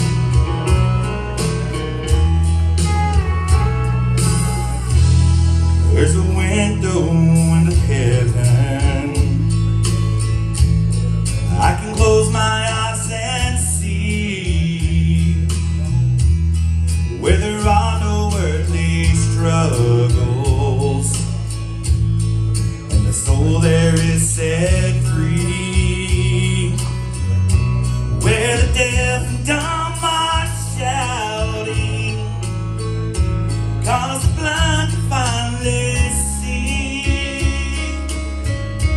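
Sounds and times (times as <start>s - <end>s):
bass line: 0.0s - 38.9s
guitar: 0.0s - 38.9s.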